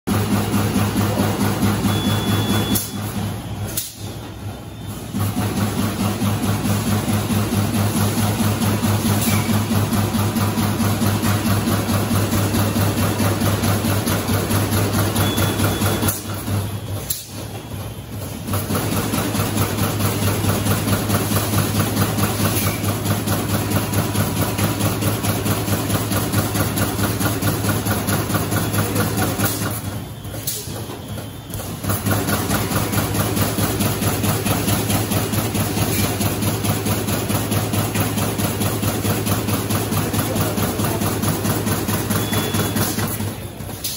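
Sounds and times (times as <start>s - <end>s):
bag making machine clattering: 0.1s - 43.9s.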